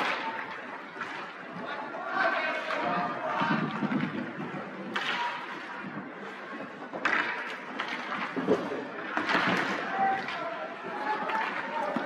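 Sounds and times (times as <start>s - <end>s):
faint voices: 0.0s - 12.0s
skates scraping ice: 0.0s - 12.0s.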